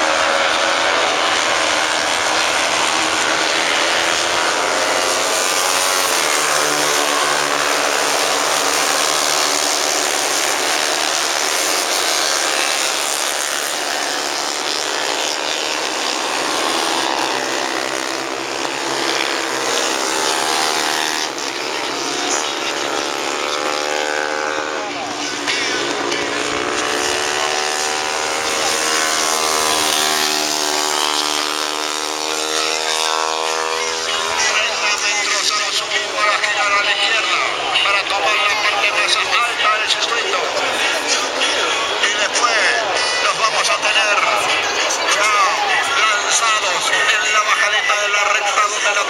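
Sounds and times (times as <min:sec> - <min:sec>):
racing motorcycles buzzing: 0:00.0 - 0:49.0.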